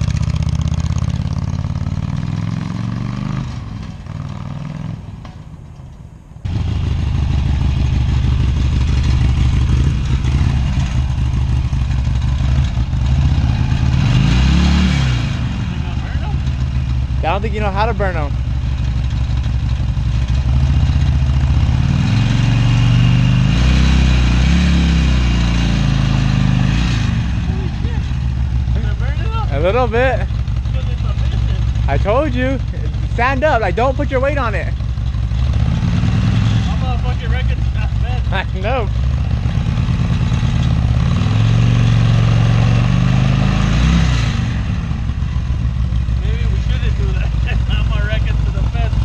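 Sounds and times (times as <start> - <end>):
motorcycle engine revving: 0.0 - 5.4, 6.4 - 49.0.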